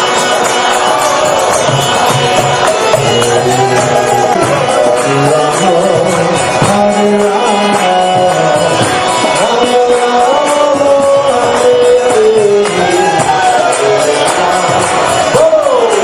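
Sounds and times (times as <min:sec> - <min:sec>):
jingling hand cymbals: 0:00.0 - 0:16.0
person singing a chant: 0:00.0 - 0:16.0.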